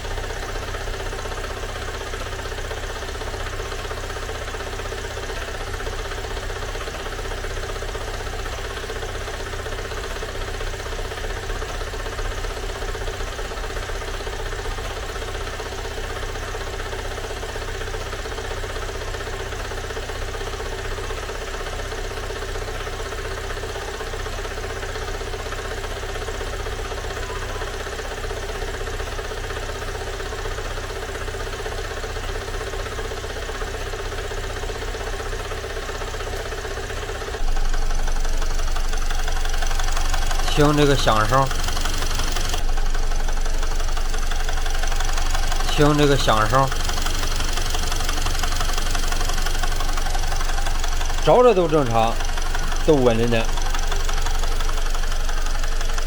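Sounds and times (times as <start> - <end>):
car engine idling with clacking: 0.0 - 56.0.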